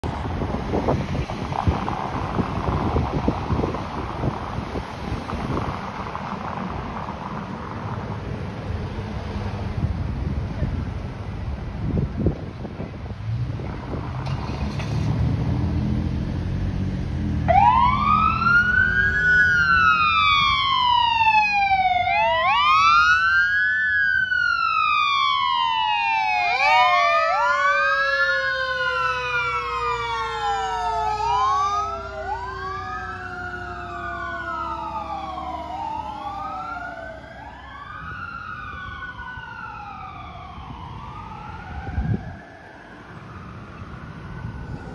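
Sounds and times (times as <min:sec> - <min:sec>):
fire engine siren wailing: 0:00.0 - 0:09.9, 0:11.9 - 0:44.9
fire engine rumbling: 0:00.0 - 0:44.9.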